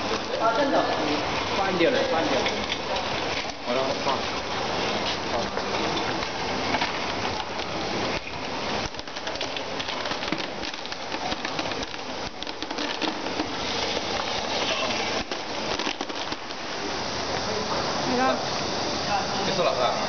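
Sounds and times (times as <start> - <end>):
coal pouring into plastic basin: 0.0 - 18.5.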